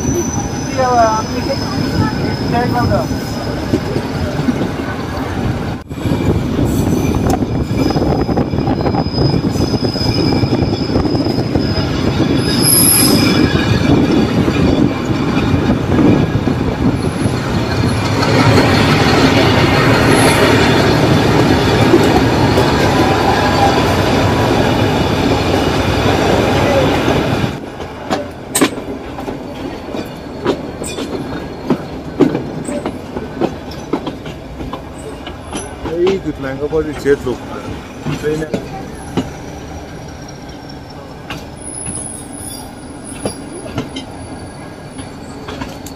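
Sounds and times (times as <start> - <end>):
high wheel squeal: 0.0 - 5.4, 6.0 - 27.6, 29.8 - 33.1, 36.7 - 45.9
train rolling on rails: 0.0 - 45.9.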